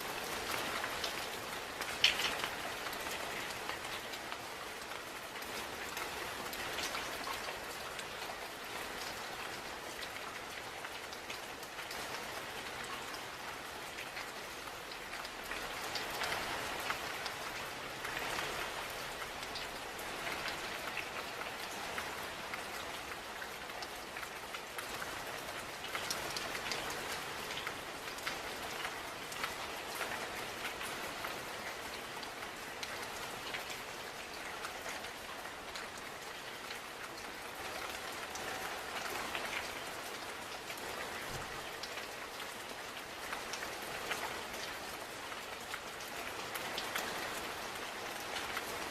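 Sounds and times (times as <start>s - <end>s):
rain drops pattering: 0.0s - 48.9s.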